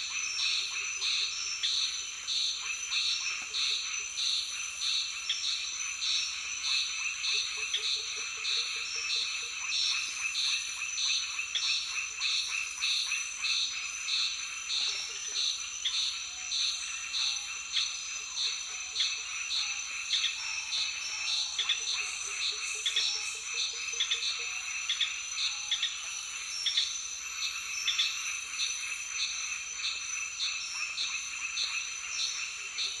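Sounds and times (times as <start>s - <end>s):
high pulsing frog call: 0.0s - 33.0s
insects calling: 0.0s - 33.0s
low rattling croak: 0.0s - 33.0s.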